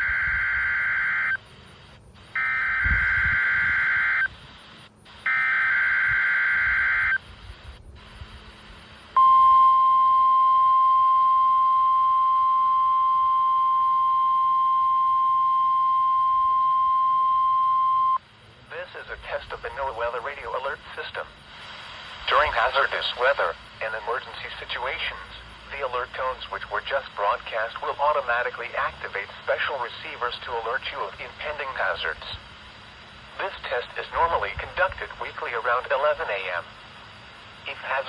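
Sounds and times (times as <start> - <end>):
steady warning alarm tone: 0.0 - 4.5, 5.2 - 21.7, 22.3 - 29.2, 30.2 - 38.0.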